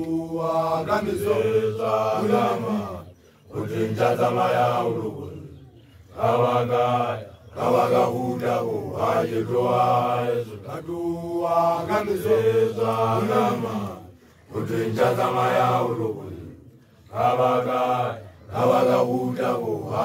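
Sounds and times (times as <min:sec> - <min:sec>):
young men chanting together: 0:00.0 - 0:20.0.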